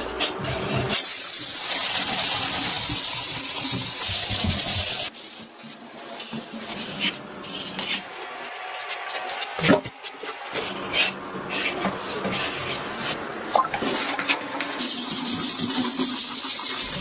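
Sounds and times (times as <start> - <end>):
rubbing and scraping: 0.0 - 17.0.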